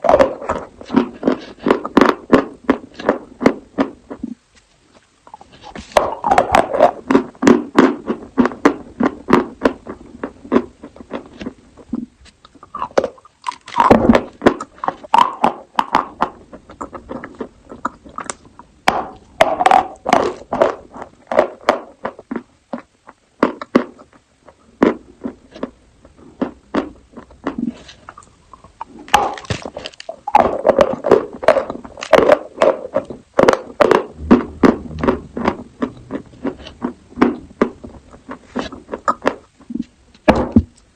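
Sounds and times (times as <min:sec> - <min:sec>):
chewing and crunching chalk: 0:00.0 - 0:39.9.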